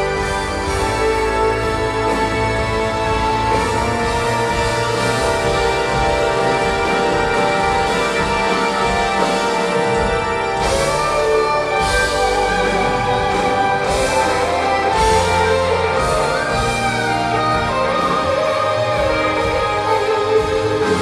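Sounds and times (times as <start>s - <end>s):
bass line: 0.0s - 21.0s
electric guitar: 0.0s - 21.0s
keyboard chords: 0.0s - 21.0s.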